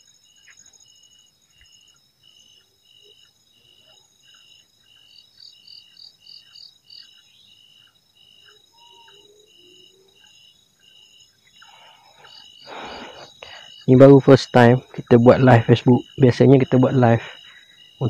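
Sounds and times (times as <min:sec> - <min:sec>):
fast pulsing insect call: 0:00.0 - 0:18.0
insect chirping in pulses: 0:00.0 - 0:18.0
insects trilling: 0:00.0 - 0:18.0.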